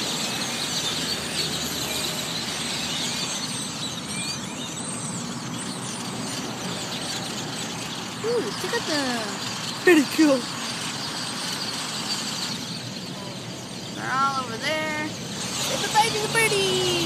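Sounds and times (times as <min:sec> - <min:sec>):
flock of birds calling: 0:00.0 - 0:17.0
traffic noise: 0:00.0 - 0:17.0.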